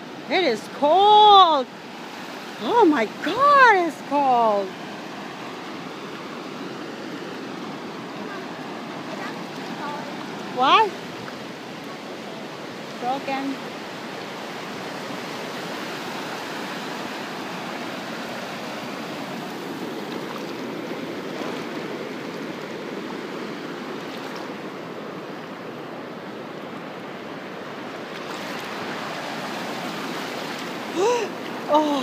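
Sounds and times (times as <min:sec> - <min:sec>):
ocean surf washing over sand: 0:00.0 - 0:32.0.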